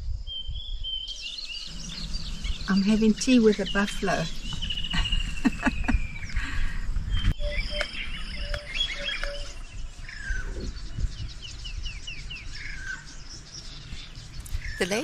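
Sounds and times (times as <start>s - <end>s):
birds chirping: 0.3s - 15.0s.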